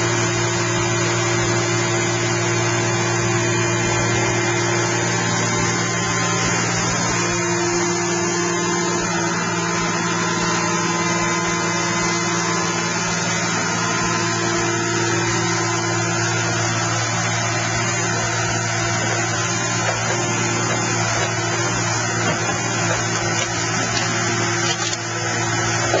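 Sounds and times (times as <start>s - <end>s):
hydraulic pumps droning: 0.0s - 26.0s.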